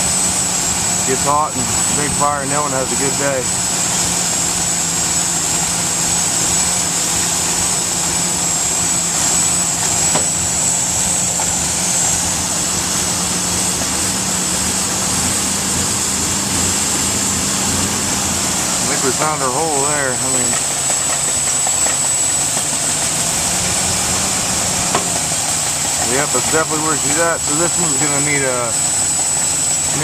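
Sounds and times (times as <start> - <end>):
car engine idling: 0.0 - 30.0
thin high whine: 0.0 - 30.0.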